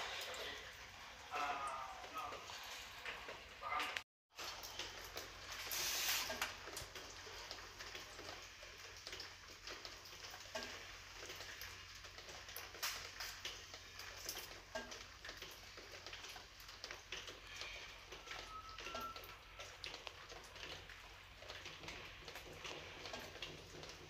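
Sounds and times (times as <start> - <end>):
water dripping: 0.0 - 24.0.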